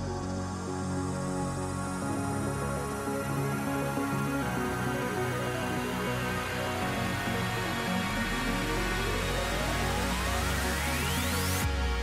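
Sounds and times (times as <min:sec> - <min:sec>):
electronic music with held notes: 0:00.0 - 0:12.0.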